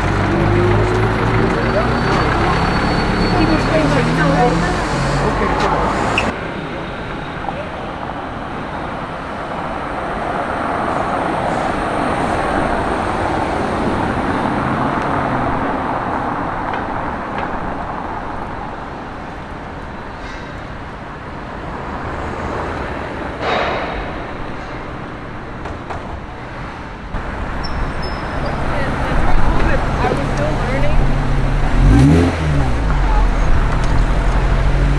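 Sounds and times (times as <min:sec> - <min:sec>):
passing vehicles: 0:00.0 - 0:34.9.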